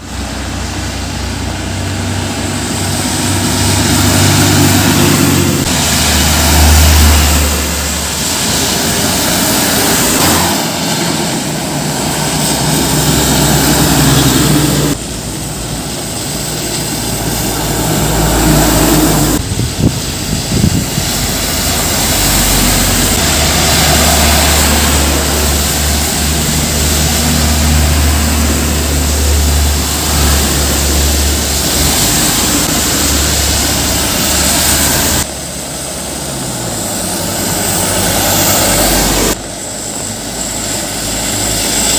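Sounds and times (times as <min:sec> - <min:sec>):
heavy trucks passing: 0:00.0 - 0:41.9
tyre and road noise: 0:00.0 - 0:41.9.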